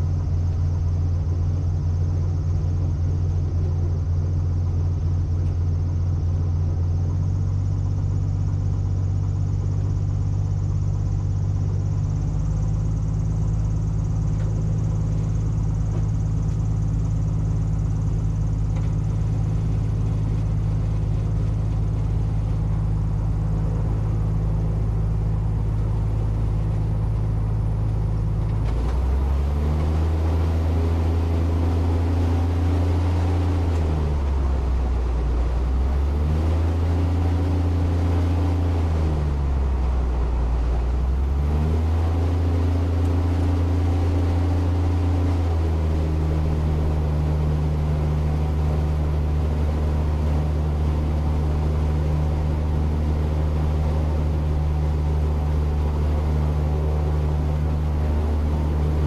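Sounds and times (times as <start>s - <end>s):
piston aircraft engine revving: 0.0s - 59.0s.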